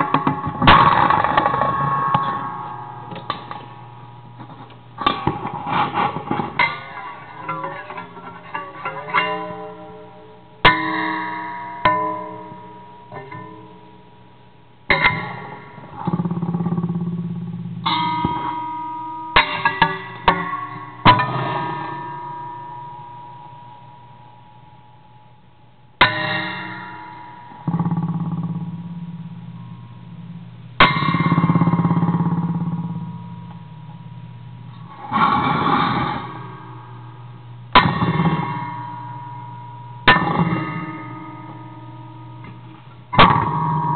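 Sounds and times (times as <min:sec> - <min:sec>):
metallic twang of struck wires: 0:00.0 - 0:14.1, 0:14.9 - 0:25.3, 0:26.0 - 0:43.9
metal noise box ringing tone: 0:00.0 - 0:43.9.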